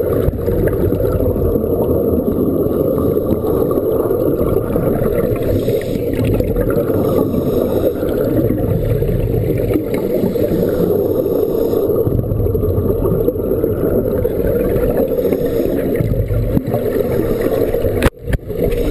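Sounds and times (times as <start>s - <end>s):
muffled underwater rush: 0.0s - 18.9s.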